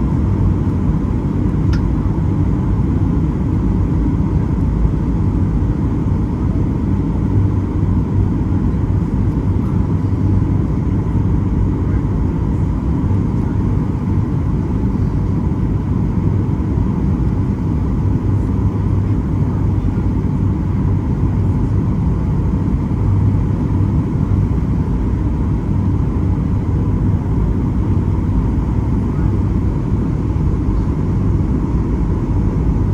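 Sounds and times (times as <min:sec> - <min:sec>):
airliner cabin engine rumble: 0:00.0 - 0:32.9.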